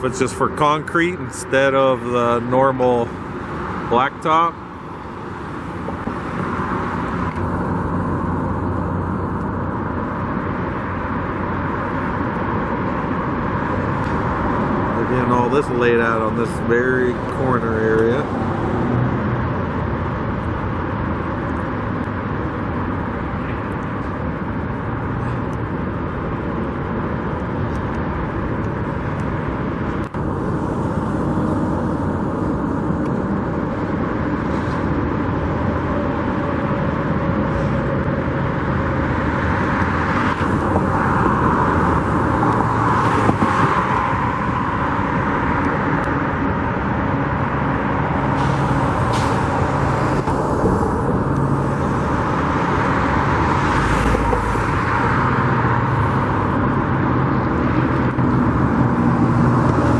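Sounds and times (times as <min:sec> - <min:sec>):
cars passing at speed: 0:00.0 - 0:59.9.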